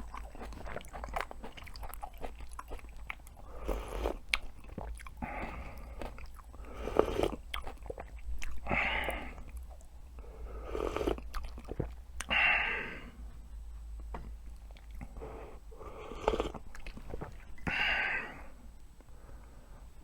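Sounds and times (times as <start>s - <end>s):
person chewing with mouth clicks: 0.0s - 12.4s, 13.5s - 17.7s.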